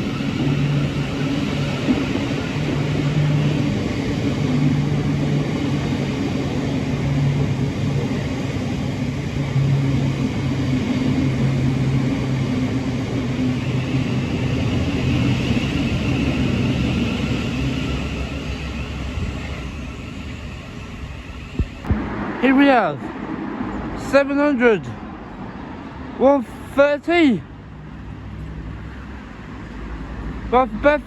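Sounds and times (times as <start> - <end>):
electric train rumbling: 0.0 - 26.7.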